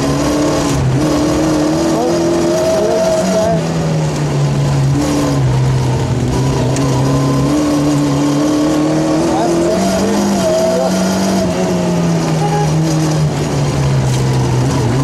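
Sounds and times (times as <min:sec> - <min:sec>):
rally car engine changing gear: 0:00.0 - 0:15.0.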